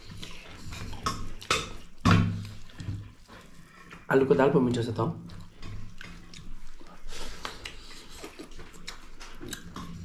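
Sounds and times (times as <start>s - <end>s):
wet chewing with smacking: 0.0s - 4.1s, 5.2s - 10.0s.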